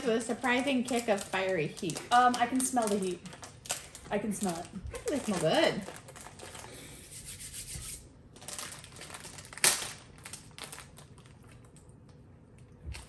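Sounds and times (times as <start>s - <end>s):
plastic packets crinkling: 0.0s - 7.5s, 8.3s - 12.0s
sharp plastic crackle: 0.0s - 7.7s, 8.3s - 13.0s.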